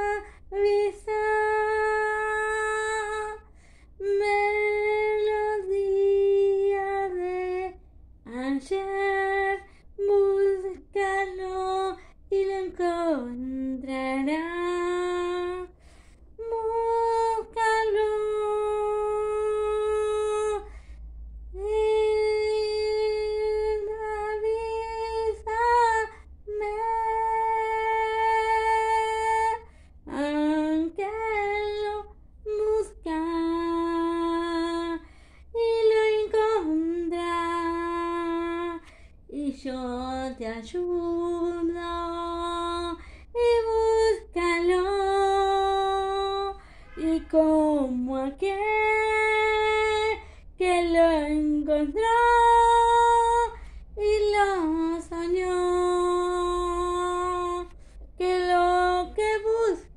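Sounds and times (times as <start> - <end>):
woman singing unaccompanied: 0.0 - 15.7, 16.4 - 20.7, 21.6 - 59.9.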